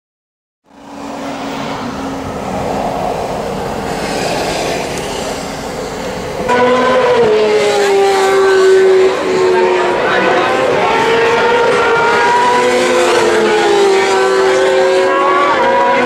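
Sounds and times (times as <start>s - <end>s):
vehicle and road noise: 0.6s - 16.0s.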